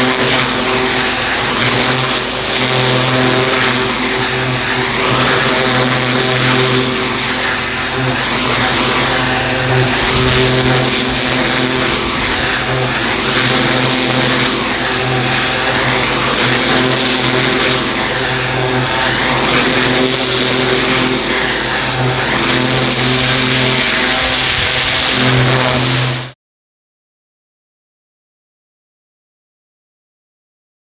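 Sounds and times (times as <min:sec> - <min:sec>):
pressure washer engine running: 0:00.0 - 0:26.4
water jet hissing on paving: 0:00.1 - 0:26.3.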